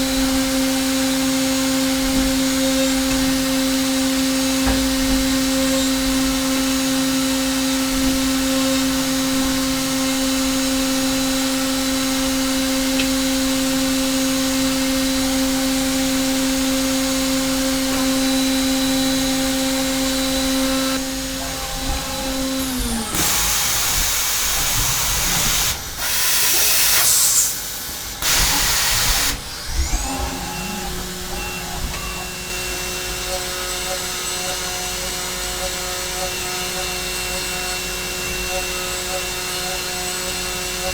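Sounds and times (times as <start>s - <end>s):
mill cutting aluminium: 0.0s - 40.9s
milling machine spindle running: 0.0s - 40.9s.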